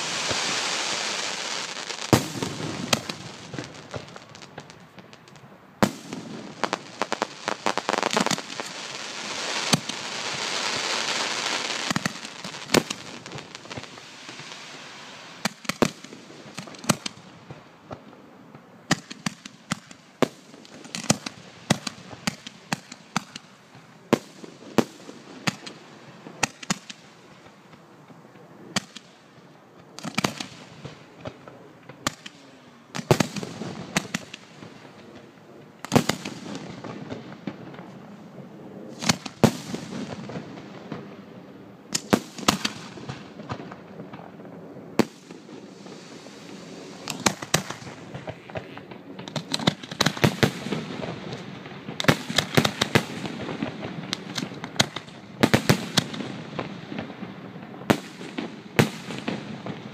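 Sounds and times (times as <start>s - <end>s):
fireworks bangs and pops: 0.0s - 27.8s, 28.7s - 41.3s, 41.9s - 59.9s.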